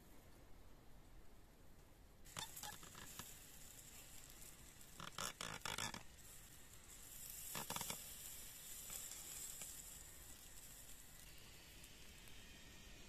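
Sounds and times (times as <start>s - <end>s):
chicken sizzling over embers: 2.2s - 13.0s
embers crackling: 2.3s - 13.0s.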